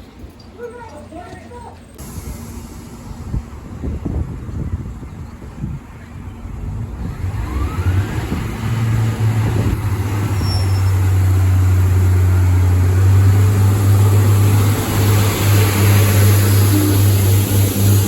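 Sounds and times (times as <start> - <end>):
diesel locomotive engine drone: 1.8 - 18.0.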